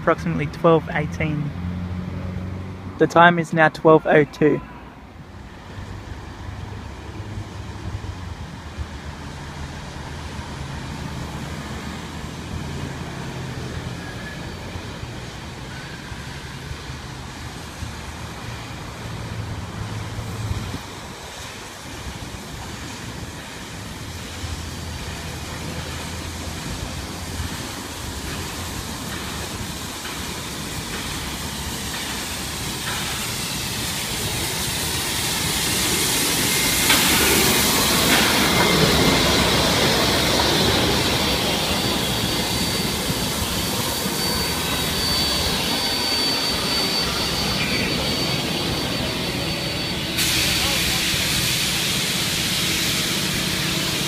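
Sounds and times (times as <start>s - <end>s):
rumble and hum of trains: 0.0s - 54.0s
hiss of steam: 10.3s - 54.0s.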